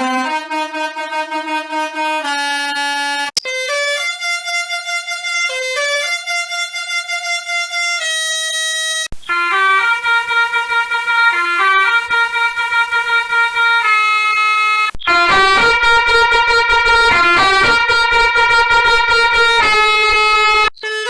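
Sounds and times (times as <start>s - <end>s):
musical bus horn melody: 0.0s - 21.0s.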